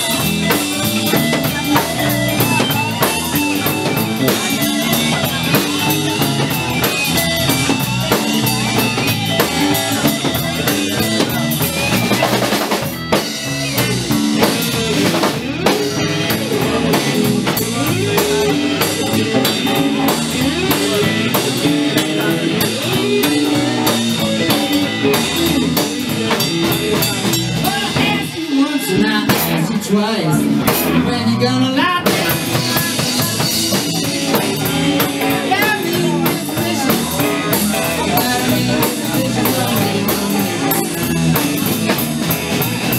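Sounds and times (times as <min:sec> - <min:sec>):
drum kit: 0:00.0 - 0:42.9
electric guitars: 0:00.0 - 0:42.9.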